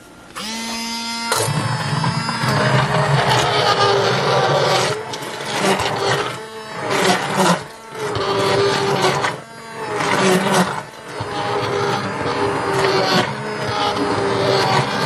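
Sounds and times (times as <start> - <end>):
immersion blender motor whirring: 0.0 - 15.0.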